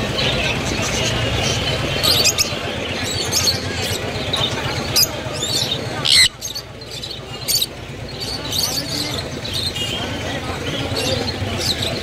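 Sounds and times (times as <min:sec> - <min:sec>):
parrots chirping and squawking: 0:00.2 - 0:10.0, 0:10.6 - 0:12.0.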